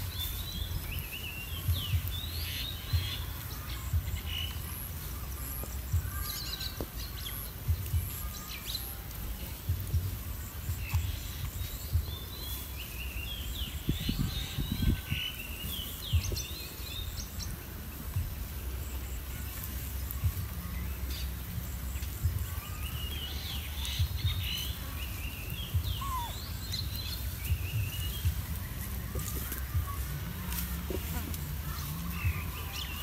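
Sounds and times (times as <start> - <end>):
low outdoor rumble: 0.0 - 33.0
small birds chirping: 0.0 - 33.0.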